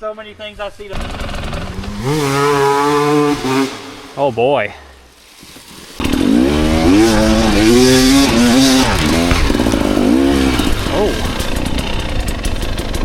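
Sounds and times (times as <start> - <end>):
dirt bike engine revving: 0.9 - 5.1, 6.0 - 13.0.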